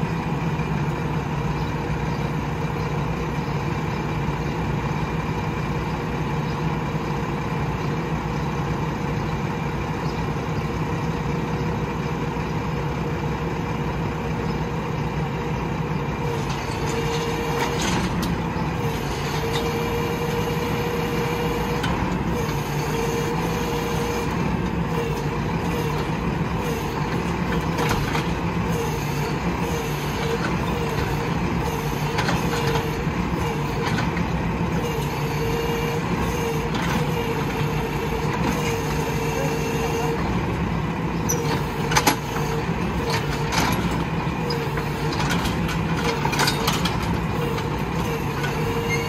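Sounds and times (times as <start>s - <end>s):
diesel truck engine running: 0.0s - 49.0s.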